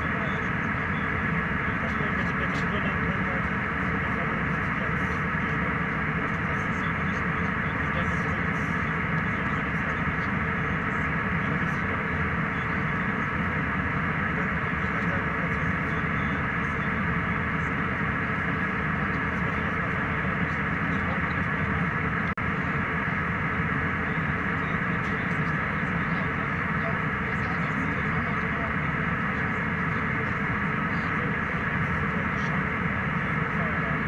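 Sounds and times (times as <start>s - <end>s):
airliner cabin airflow and engines: 0.0s - 34.0s.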